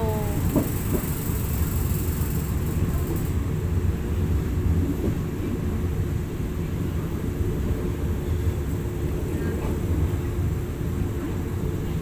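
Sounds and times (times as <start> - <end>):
train carriage running on rails: 0.0 - 12.0.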